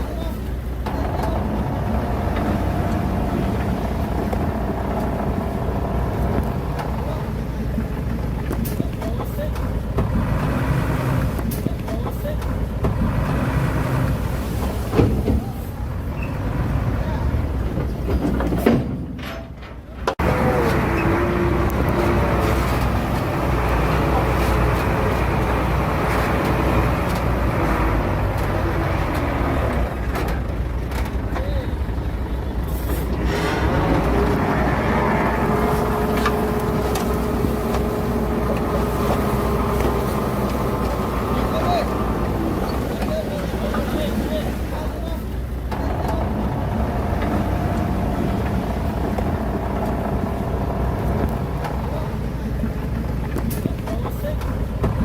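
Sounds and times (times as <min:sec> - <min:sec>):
heavy diesel machinery rumbling: 0:00.0 - 0:55.0.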